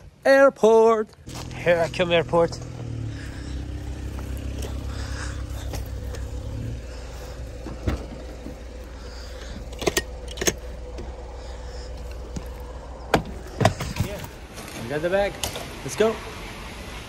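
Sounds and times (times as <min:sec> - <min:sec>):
car engine running: 0:01.2 - 0:16.8.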